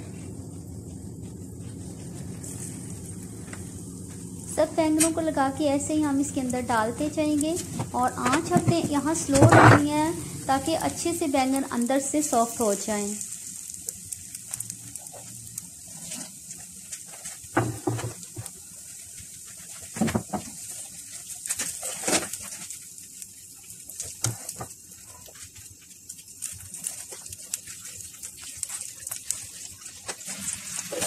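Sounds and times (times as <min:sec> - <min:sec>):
eggplant sizzling in oil: 0:00.0 - 0:31.0.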